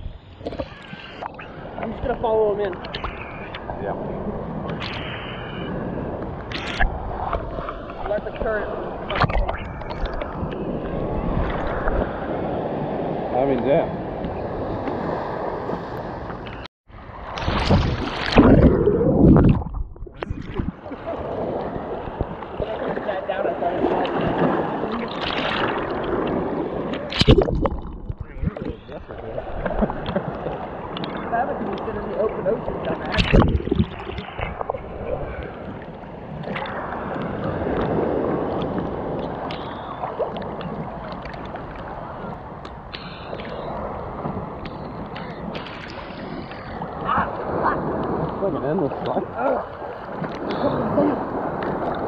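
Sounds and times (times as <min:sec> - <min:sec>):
water churning: 0:00.0 - 0:52.0
water sloshing: 0:00.3 - 0:52.0.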